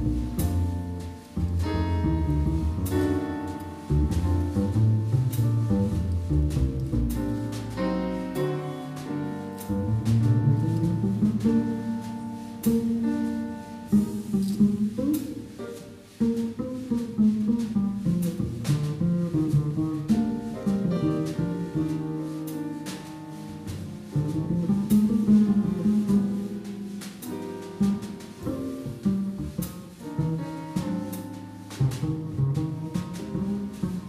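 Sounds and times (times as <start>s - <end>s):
light drum and cymbal strokes: 0.0s - 34.0s
plucked double bass solo: 0.0s - 34.0s
quiet piano chords: 0.0s - 34.0s.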